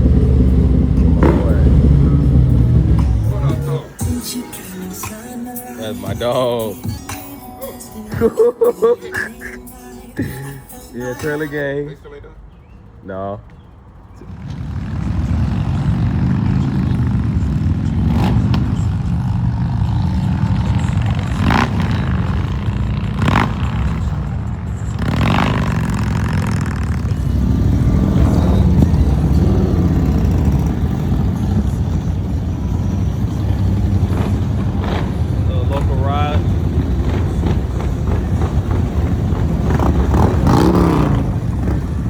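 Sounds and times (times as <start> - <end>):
motorcycle engine rumble: 0.0 - 42.0.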